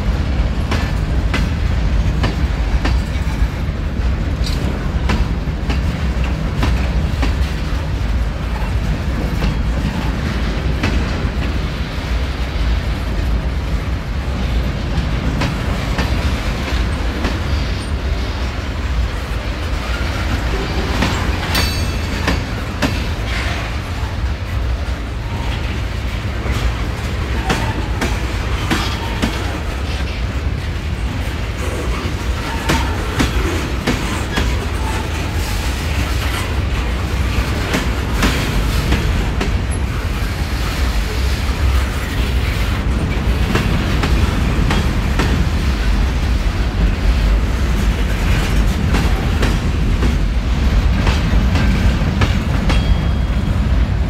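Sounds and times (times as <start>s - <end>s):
train wheels rumbling on rail: 0.0s - 54.0s
wheels clicking over rail joints: 0.2s - 11.8s, 14.5s - 53.7s.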